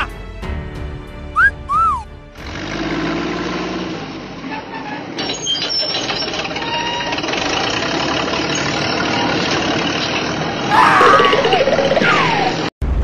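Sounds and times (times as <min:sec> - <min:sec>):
bulldozer engine running: 0:01.4 - 0:13.0.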